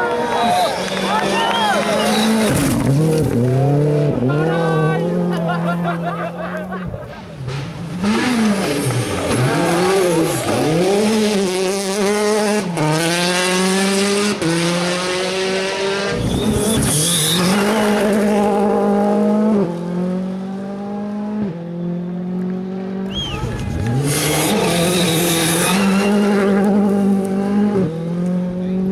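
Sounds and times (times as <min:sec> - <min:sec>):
rally car engine at full throttle: 0:00.0 - 0:28.9.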